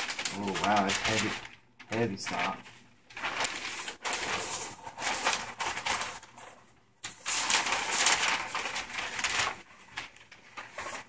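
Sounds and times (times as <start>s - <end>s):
wrapping paper rustling: 0.0s - 11.0s.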